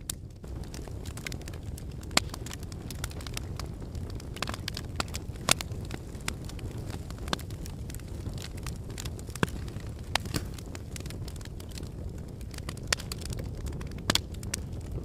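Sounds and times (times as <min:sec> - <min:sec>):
fire low rumble: 0:00.0 - 0:15.0
logs crackling and popping: 0:00.0 - 0:15.0.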